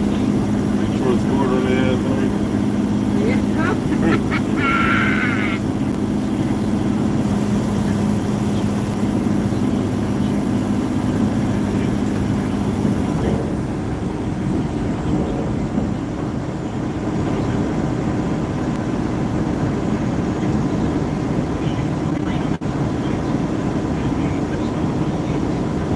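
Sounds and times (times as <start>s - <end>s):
diesel engine droning: 0.0s - 25.9s
road and tyre noise: 0.0s - 25.9s.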